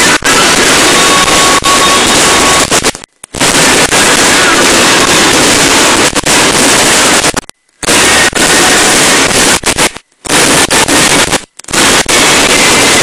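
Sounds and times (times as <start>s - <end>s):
fireworks and firecrackers: 0.0s - 13.0s.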